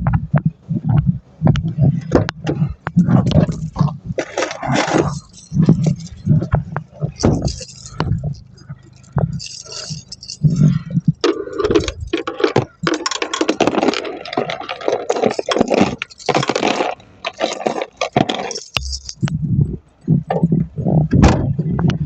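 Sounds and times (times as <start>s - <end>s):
scraping and rustling: 0.7s - 22.0s
rattling and clattering: 0.9s - 22.0s.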